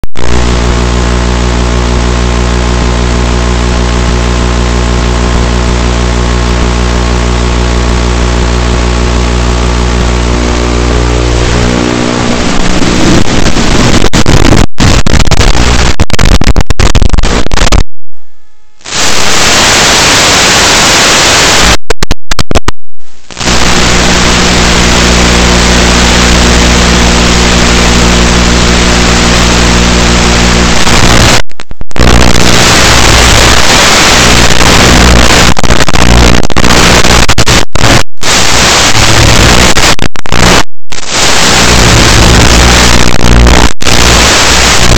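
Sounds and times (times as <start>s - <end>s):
radio static hiss: 0.0s - 44.9s.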